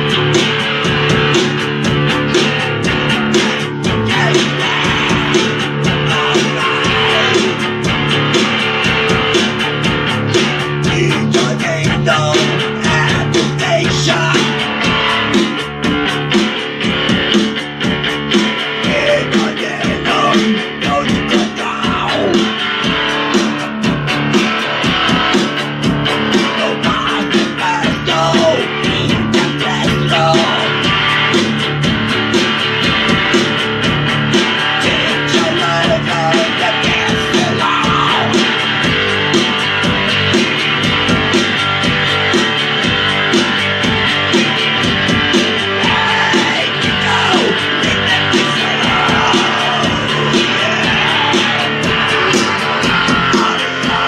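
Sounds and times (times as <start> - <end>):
guitar rock music: 0.0 - 54.0.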